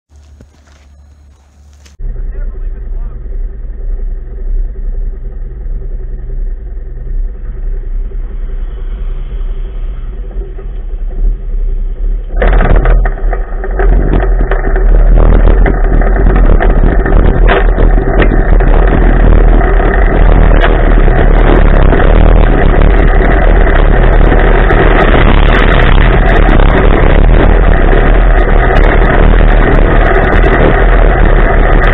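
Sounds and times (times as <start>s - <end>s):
off-road vehicle engine accelerating: 0.1s - 31.9s.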